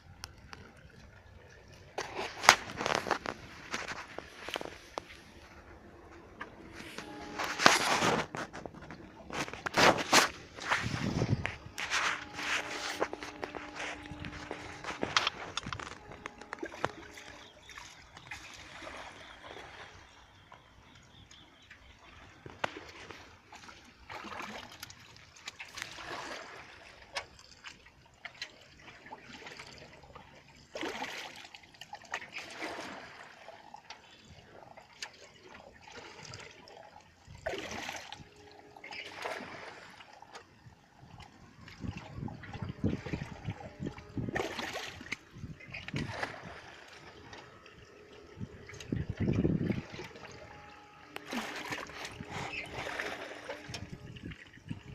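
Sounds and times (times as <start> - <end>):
water splashing and sloshing: 0.0 - 54.9.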